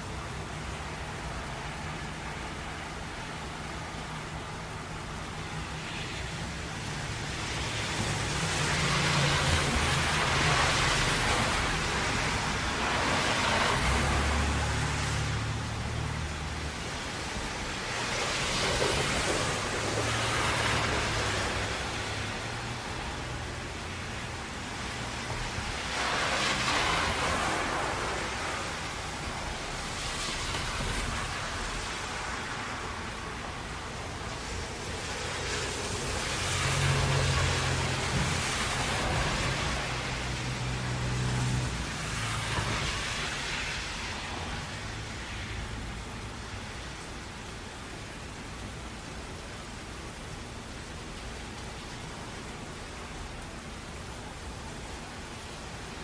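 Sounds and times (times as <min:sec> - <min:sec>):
rain: 0:00.0 - 0:56.0.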